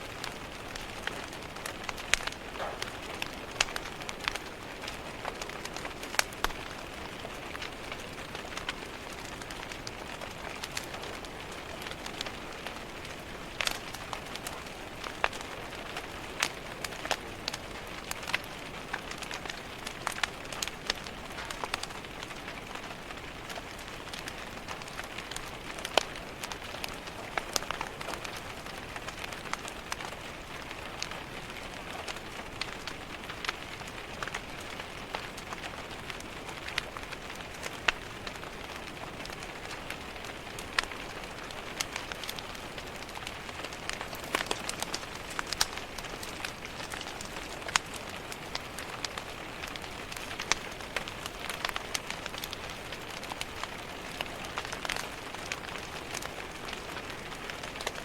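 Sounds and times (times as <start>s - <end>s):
rain pattering on a window: 0.0s - 58.0s
wood fire crackling and popping: 0.0s - 58.0s.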